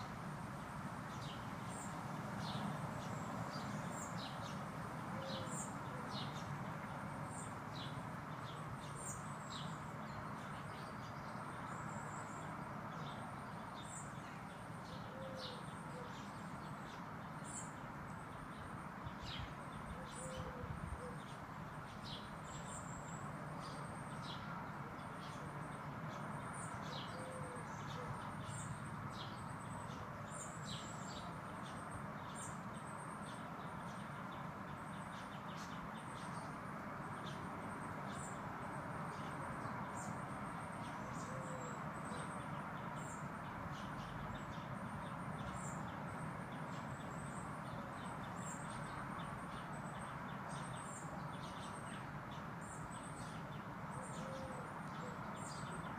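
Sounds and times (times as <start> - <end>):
small birds chirping: 1.0 - 4.6, 5.3 - 55.9.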